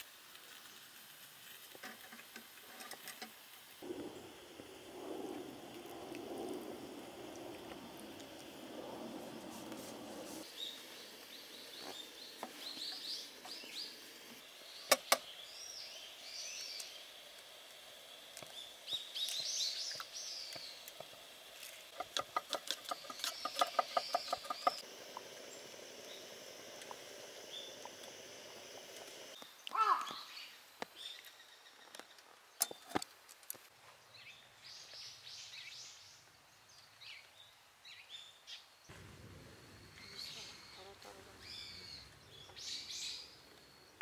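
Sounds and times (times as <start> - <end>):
small birds chirping: 3.8 - 33.0, 33.9 - 39.0, 39.9 - 44.0.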